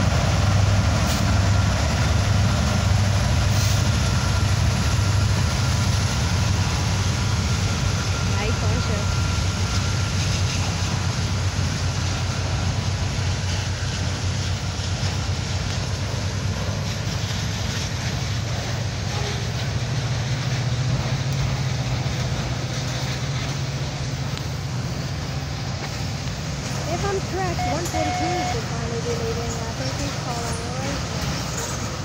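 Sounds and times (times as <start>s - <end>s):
freight train wheels rumbling on rails: 0.0s - 32.0s.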